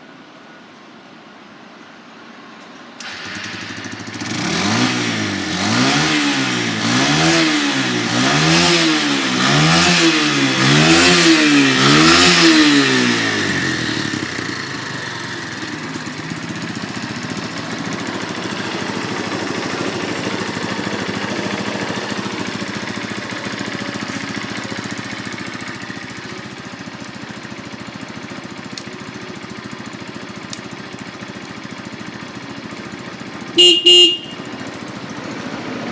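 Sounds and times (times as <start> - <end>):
motorcycle engine revving and idling: 3.0 - 35.9.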